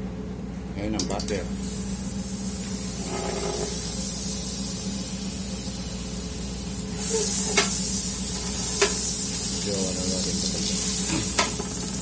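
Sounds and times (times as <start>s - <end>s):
butter sizzling: 1.5s - 12.0s.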